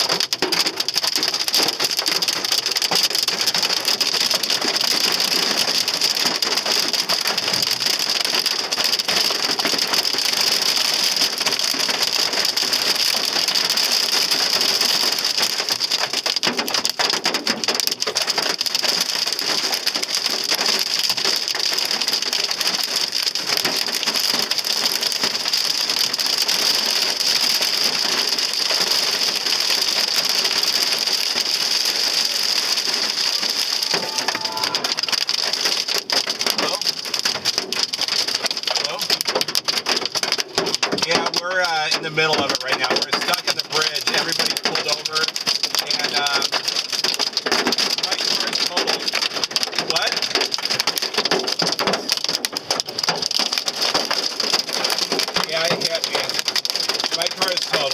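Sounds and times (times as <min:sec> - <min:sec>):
hail pelting car roof: 0:00.0 - 0:57.9.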